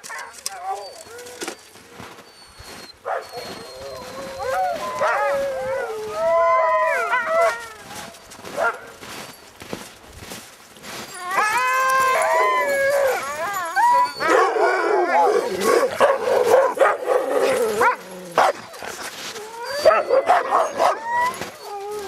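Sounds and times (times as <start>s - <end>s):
sled dogs howling and yipping: 0.0s - 22.0s.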